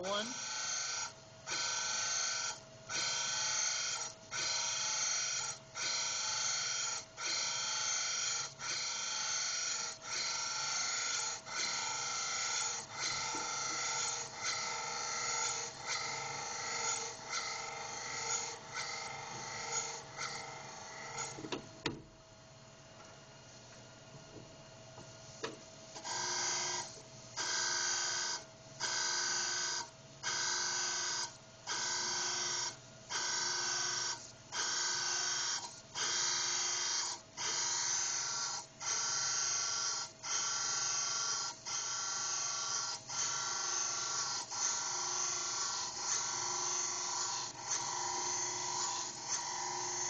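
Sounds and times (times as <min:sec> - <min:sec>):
grinding wheel hissing on metal: 0:00.0 - 0:21.4, 0:26.0 - 0:50.0
steady machine whine: 0:00.0 - 0:50.0.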